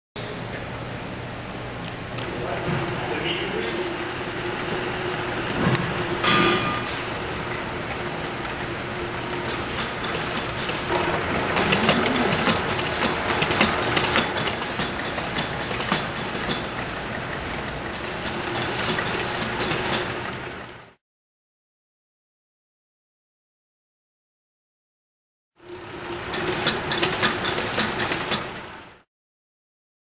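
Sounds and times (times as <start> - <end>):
motor and conveyor hum: 0.2 - 21.0, 25.6 - 29.0.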